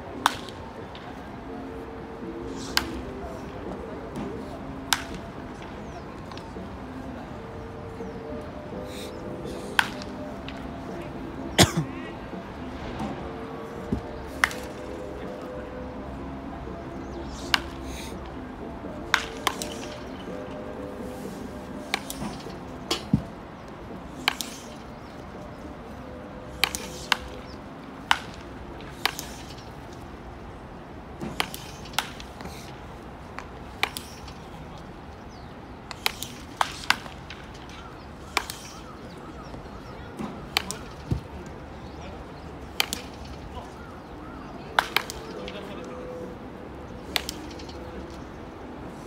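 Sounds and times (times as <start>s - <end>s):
low background noise: 0.0s - 49.0s
baseball bats cracking balls: 0.1s - 49.0s.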